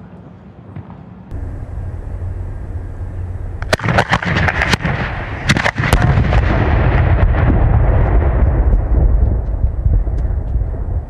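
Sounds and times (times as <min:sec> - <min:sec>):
continuous rush of noise: 0:00.0 - 0:11.0
fireworks cracks and bangs: 0:01.4 - 0:10.9.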